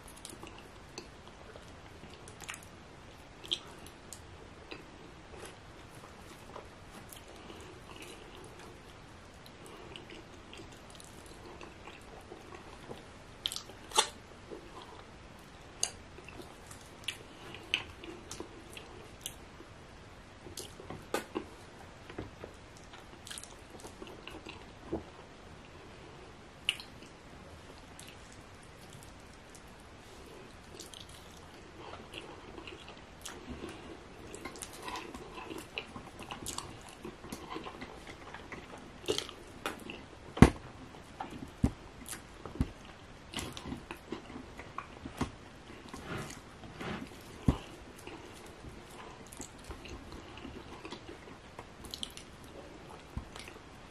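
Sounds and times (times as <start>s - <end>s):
chewing: 0.1s - 15.1s, 15.8s - 19.7s, 20.4s - 25.8s, 26.6s - 27.2s, 27.8s - 53.7s.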